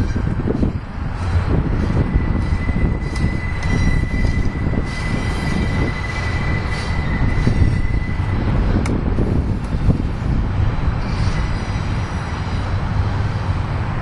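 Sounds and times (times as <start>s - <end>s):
train cars rumbling past: 0.0s - 14.0s
wheel squeal: 1.0s - 10.2s, 11.0s - 13.4s.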